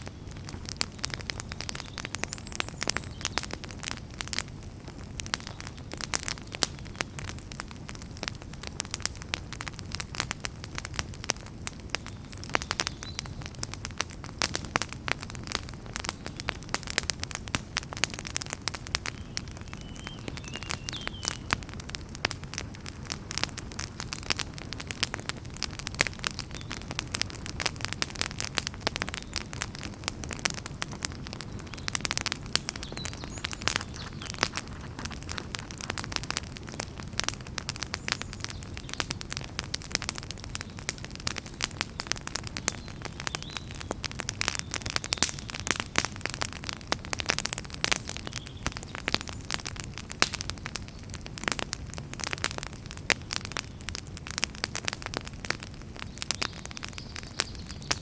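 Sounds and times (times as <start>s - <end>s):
firewood crackles and pops: 0.0s - 58.0s
low rumble of flame: 0.0s - 58.0s.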